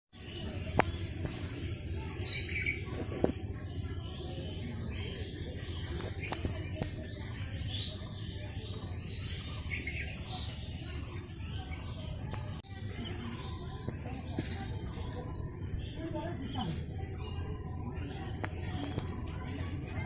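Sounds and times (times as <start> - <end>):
bird chirps: 0.2 - 20.0.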